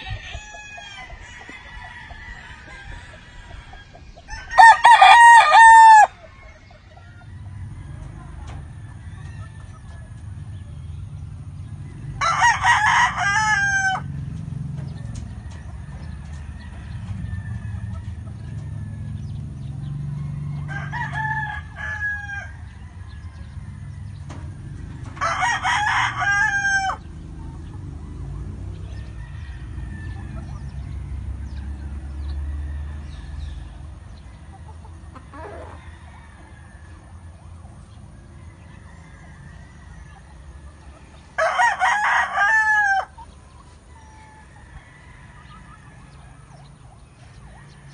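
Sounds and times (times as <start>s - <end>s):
rooster crowing: 0.0s - 10.7s, 11.8s - 14.2s, 14.9s - 27.1s, 28.0s - 34.3s, 35.2s - 43.3s, 43.9s - 47.9s.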